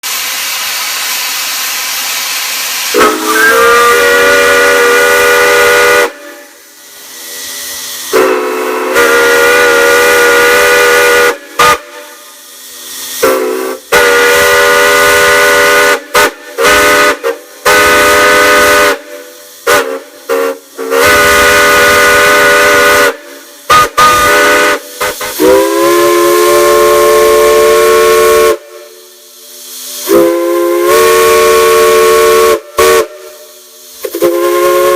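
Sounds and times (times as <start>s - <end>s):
steam hissing: 0.0s - 34.9s
chime steam whistle blasts: 1.9s - 34.9s.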